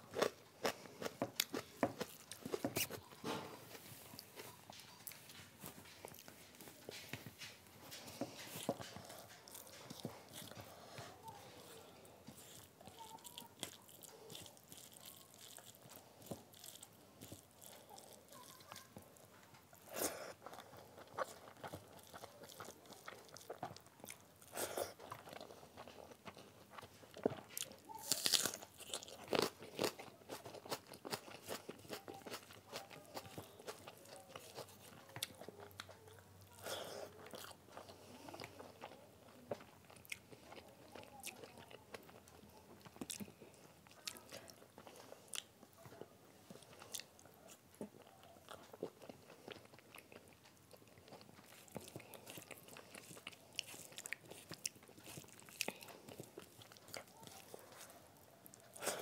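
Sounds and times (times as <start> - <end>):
chewing and crunching food: 0.0 - 59.0
fingers squishing rice: 0.0 - 59.0.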